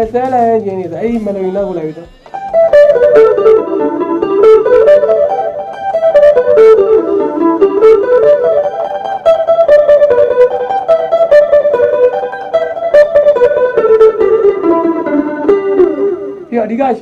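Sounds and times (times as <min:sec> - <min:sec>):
electric guitar melody: 0:00.0 - 0:17.0.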